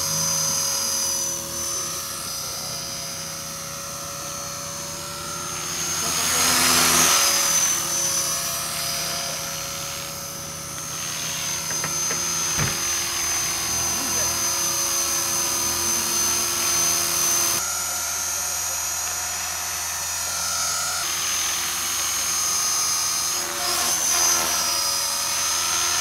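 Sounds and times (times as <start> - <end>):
rc helicopter motor whine: 0.0 - 26.0.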